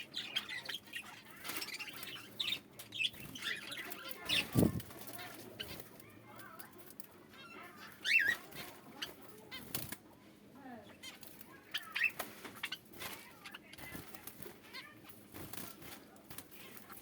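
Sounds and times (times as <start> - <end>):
birds chirping and squawking: 0.0 - 10.1, 10.8 - 17.0.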